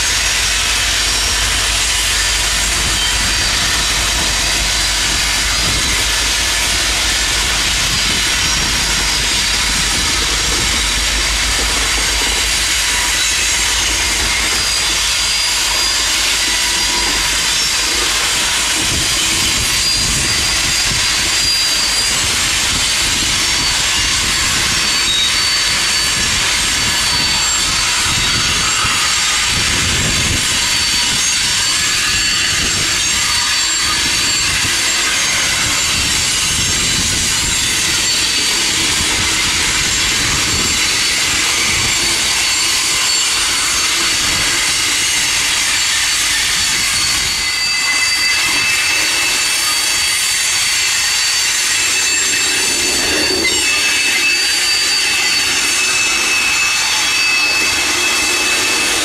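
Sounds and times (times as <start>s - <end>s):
train wheels rushing on rail: 0.0s - 59.0s
high-pitched wheel squeal: 0.1s - 59.0s.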